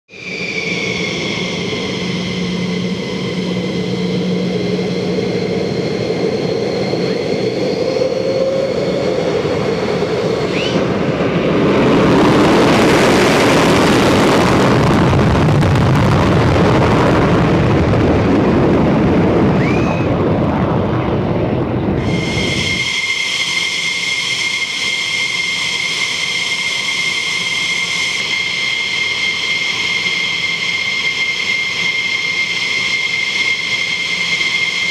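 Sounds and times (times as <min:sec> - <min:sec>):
jet engine turbine whine: 0:00.1 - 0:34.9
loud rushing jet roar: 0:00.1 - 0:34.9.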